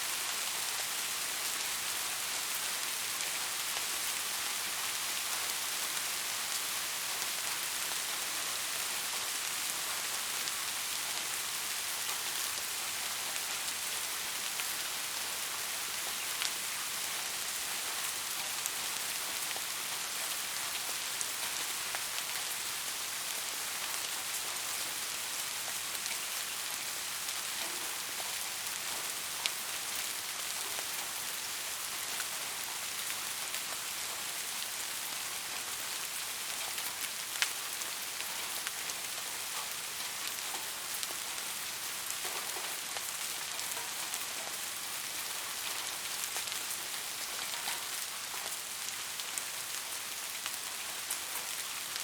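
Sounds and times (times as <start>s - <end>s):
rain on hard surfaces: 0.0s - 52.0s.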